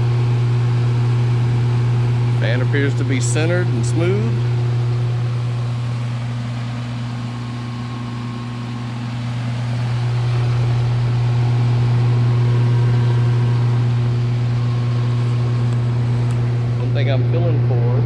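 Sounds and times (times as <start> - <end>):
heat pump unit humming: 0.0 - 18.0.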